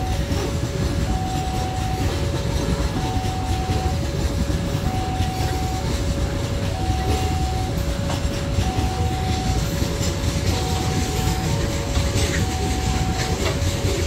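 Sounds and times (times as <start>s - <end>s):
level crossing alarm tones: 0.0s - 14.0s
train wheels rumbling on rail: 0.0s - 14.0s.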